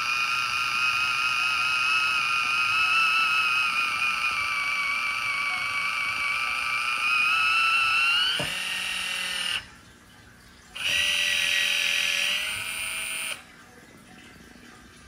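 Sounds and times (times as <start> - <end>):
electric can opener motor whining: 0.0 - 9.8, 10.8 - 13.5.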